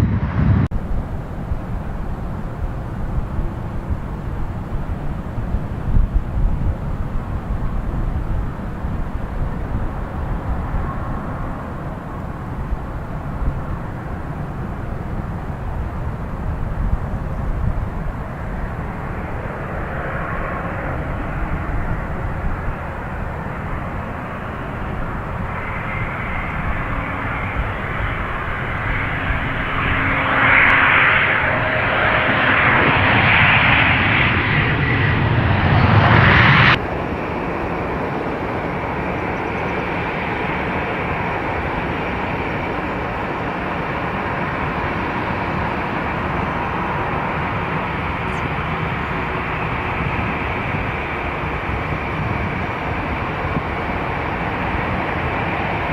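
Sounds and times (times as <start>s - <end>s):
airliner engines rushing roar: 0.0s - 55.9s.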